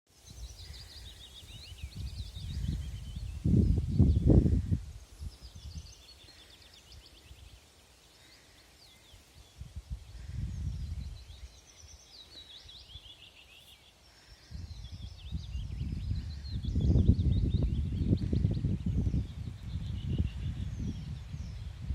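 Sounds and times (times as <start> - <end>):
songbirds chirping and trilling: 0.1 - 21.9.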